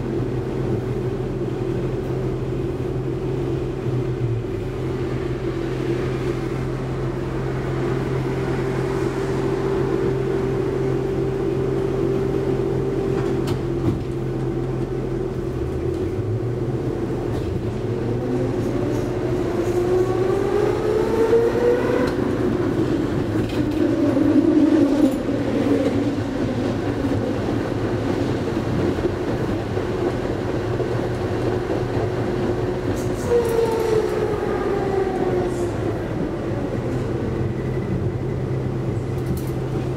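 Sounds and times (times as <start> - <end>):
tram motor whine: 0.0 - 39.9
tram rolling noise: 0.0 - 39.9.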